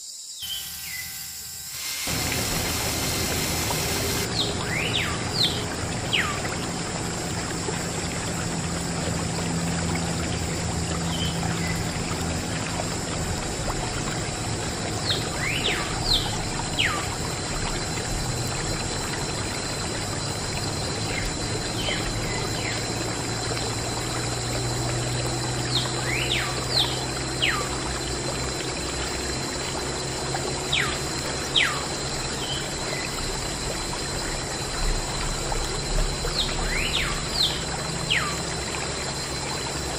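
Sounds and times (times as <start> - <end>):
water trickling and splashing: 1.6 - 39.9.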